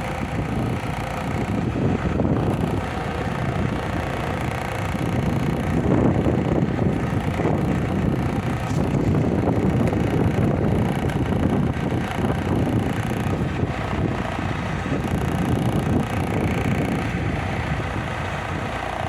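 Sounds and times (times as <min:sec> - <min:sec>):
car road and running noise: 0:00.0 - 0:19.0
rattle from front bumper: 0:00.0 - 0:19.0.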